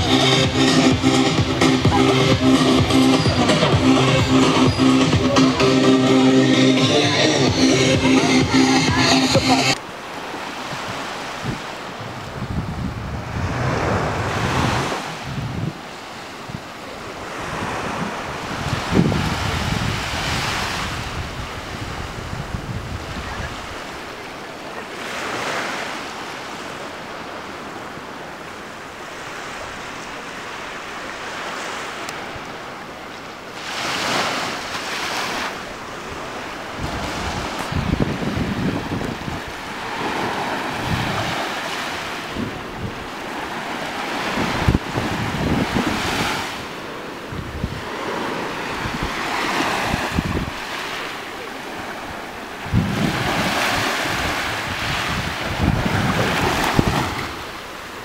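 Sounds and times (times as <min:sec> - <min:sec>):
wind gusting against microphone: 0:07.3 - 0:58.0
small waves breaking on beach: 0:09.8 - 0:58.0.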